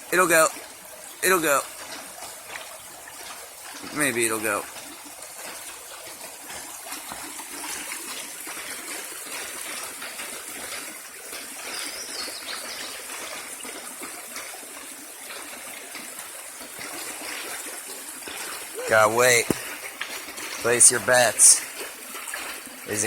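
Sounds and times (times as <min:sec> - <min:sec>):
stream trickling and babbling: 0:00.0 - 0:23.0.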